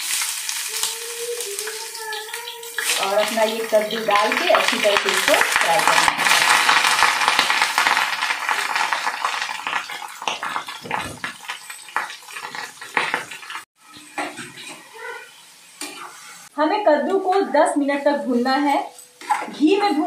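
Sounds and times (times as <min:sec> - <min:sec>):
pumpkin frying in ghee: 0:00.0 - 0:20.0.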